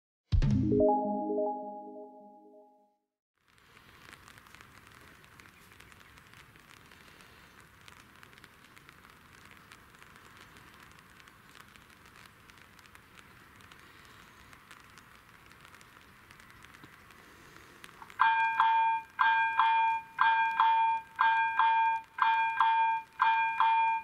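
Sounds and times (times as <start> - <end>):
light rain hiss: 3.4 - 24.0.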